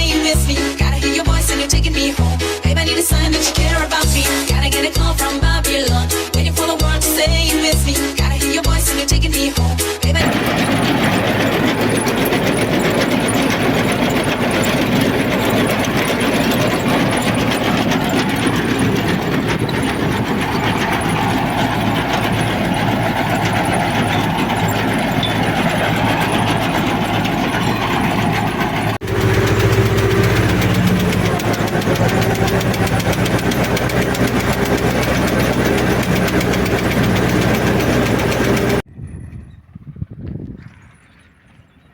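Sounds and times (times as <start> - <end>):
tractor engine and machinery clatter: 0.0 - 2.2, 10.2 - 41.9.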